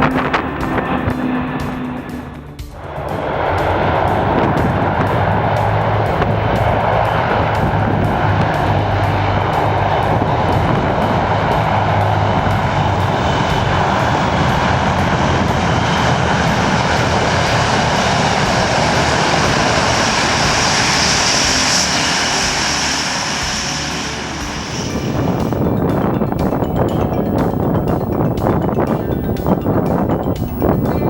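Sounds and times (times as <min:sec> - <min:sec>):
aircraft engines roaring: 0:00.0 - 0:31.0
high whine: 0:00.0 - 0:31.0.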